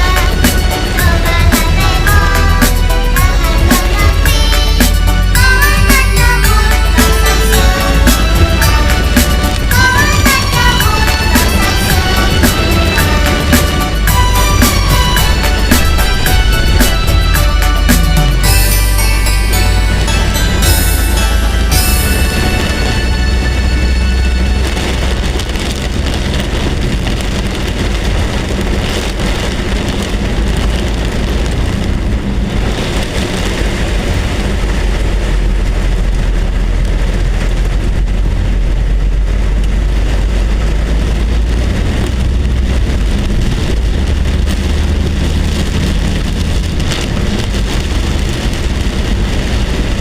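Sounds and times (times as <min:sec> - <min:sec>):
heavy rain hissing: 0:00.0 - 0:50.0
low rumble: 0:00.0 - 0:50.0.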